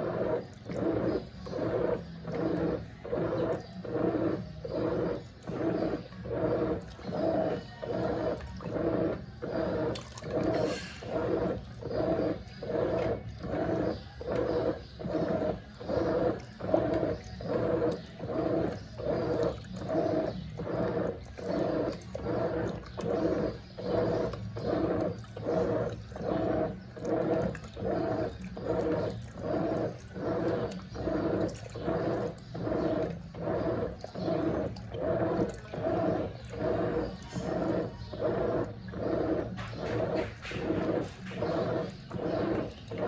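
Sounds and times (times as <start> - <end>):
washing machine motor whirring: 0.0 - 43.0
water swishing: 0.0 - 43.0.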